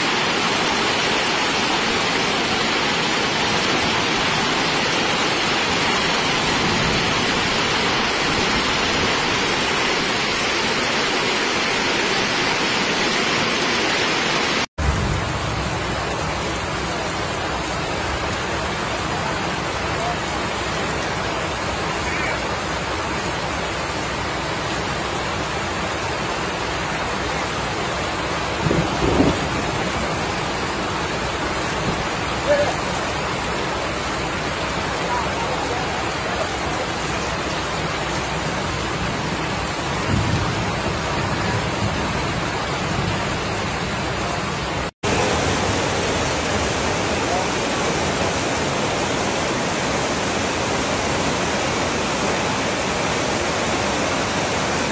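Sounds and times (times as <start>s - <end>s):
heavy rain hissing: 0.0s - 54.9s
rain falling on pavement: 0.0s - 54.9s.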